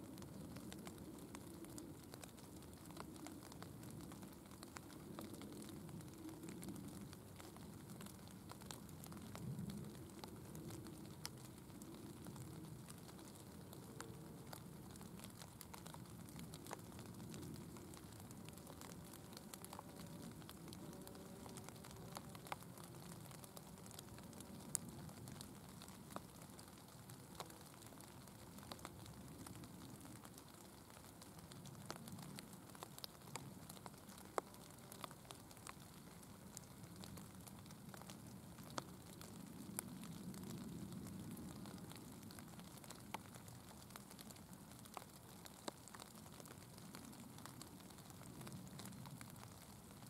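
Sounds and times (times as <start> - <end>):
soft ticks: 0.0 - 50.0.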